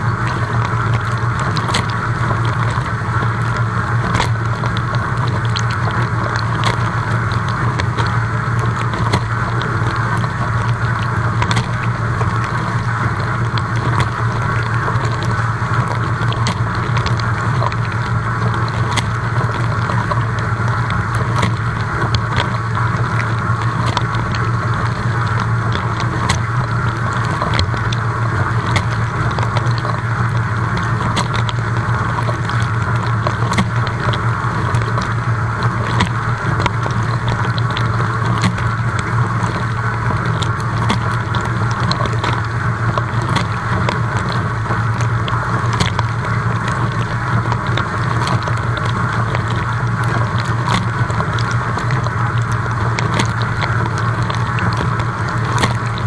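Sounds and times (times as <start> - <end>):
dishwasher pump humming: 0.0 - 56.0
droplets ticking: 0.0 - 56.0.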